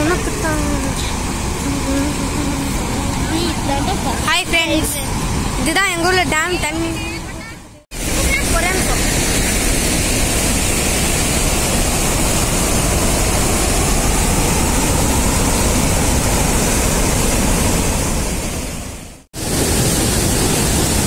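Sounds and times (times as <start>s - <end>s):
water rushing down spillway: 0.0s - 7.0s, 7.9s - 21.0s.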